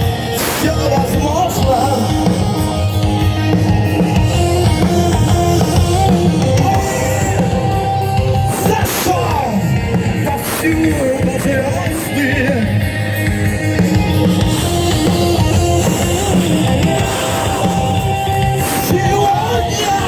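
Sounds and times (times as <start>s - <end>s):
live rock band playing: 0.0s - 20.0s
person singing: 0.2s - 12.9s, 13.7s - 20.0s.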